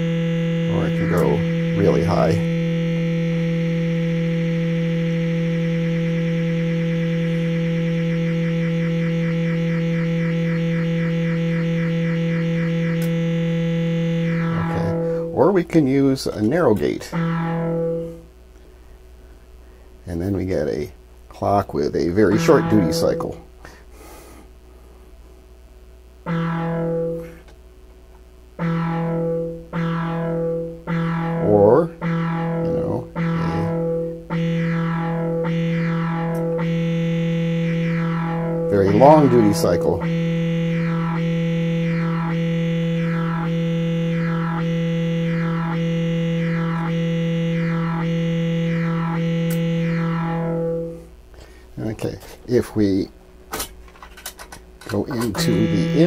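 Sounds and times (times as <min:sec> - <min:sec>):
buzzy low synthesizer note: 0:00.0 - 0:23.8, 0:25.5 - 0:27.6, 0:28.2 - 0:53.2, 0:54.9 - 0:56.0.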